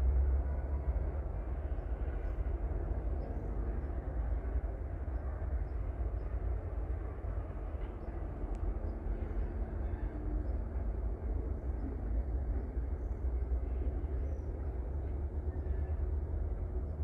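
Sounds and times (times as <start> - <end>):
diesel locomotives rumbling: 0.0 - 17.0.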